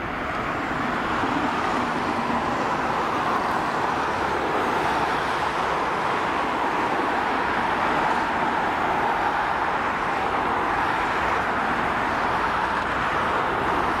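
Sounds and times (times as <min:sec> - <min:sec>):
jet engines at takeoff thrust: 0:00.0 - 0:14.0.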